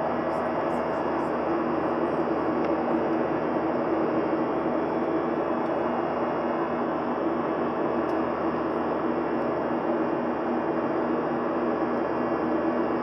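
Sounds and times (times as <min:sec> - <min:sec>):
airplane cabin drone: 0:00.0 - 0:13.0.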